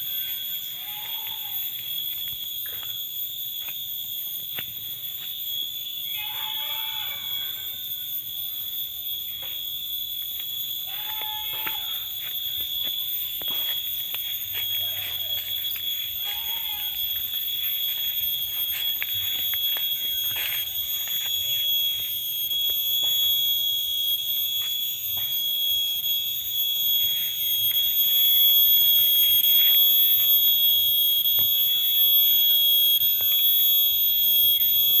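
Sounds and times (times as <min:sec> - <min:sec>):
high-pitched ringing whine: 0:00.0 - 0:35.0.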